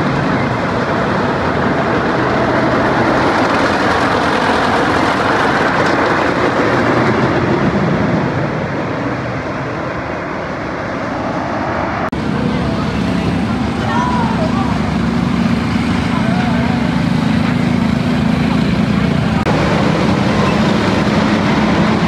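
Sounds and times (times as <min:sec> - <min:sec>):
roller coaster rumbling on track: 0:00.0 - 0:22.0.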